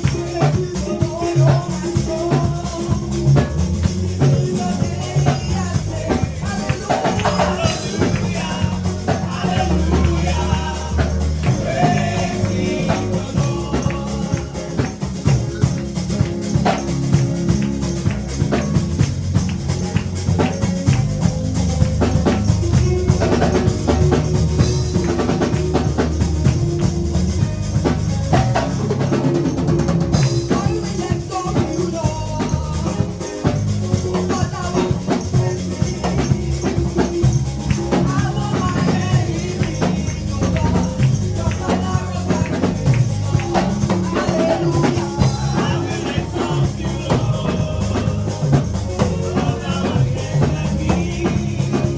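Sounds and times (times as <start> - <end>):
drums: 0.0 - 51.9
gospel singing: 0.0 - 51.9
tambourine: 0.0 - 51.9.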